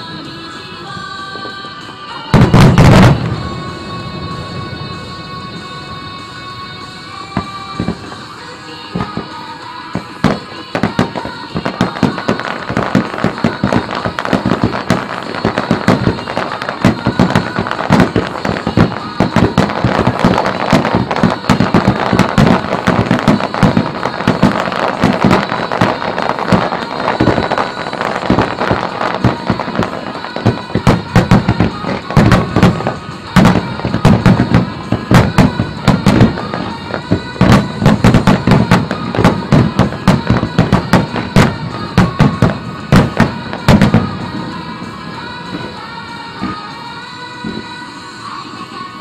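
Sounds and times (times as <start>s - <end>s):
fireworks launching and bursting: 1.4s - 48.3s.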